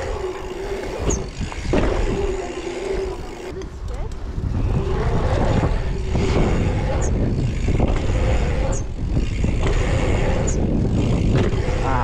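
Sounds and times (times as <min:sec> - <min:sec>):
bike tyres rolling on asphalt: 0:00.0 - 0:12.0
wind buffeting microphone: 0:00.0 - 0:12.0.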